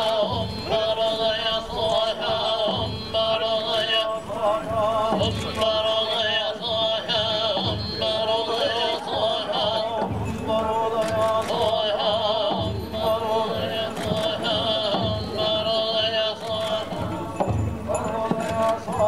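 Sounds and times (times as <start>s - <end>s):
slow steady drumbeat: 0.0s - 19.0s
voices chanting in unison: 0.0s - 19.0s.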